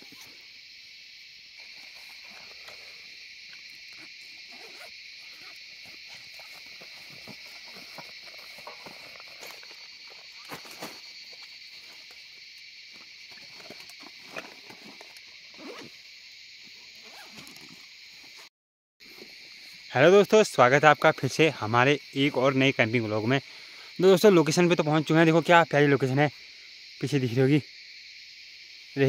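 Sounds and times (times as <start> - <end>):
night insects chorus: 0.0 - 29.0.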